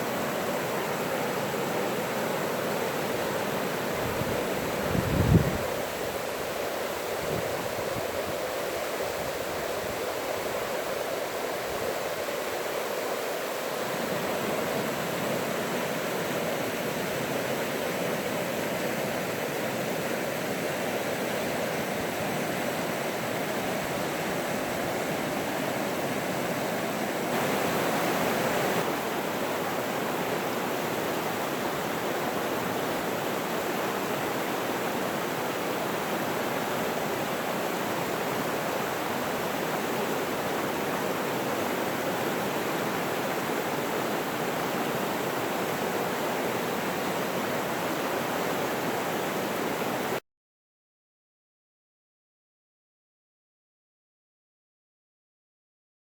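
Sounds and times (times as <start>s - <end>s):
stream water rushing: 0.0s - 50.2s.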